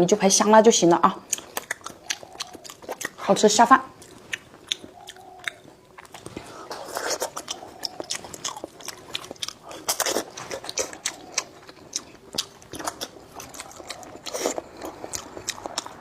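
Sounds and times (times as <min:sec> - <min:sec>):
person chewing and crunching food: 0:01.2 - 0:16.0.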